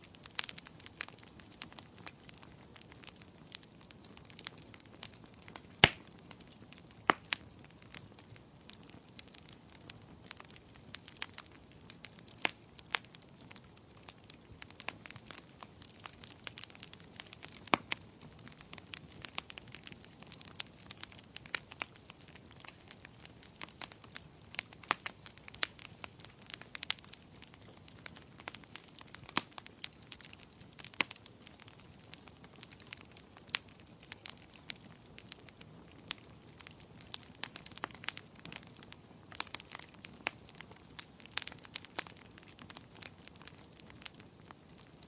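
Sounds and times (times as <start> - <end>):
soft hiss of burning: 0.0 - 45.0
wood fire crackling: 0.0 - 45.0.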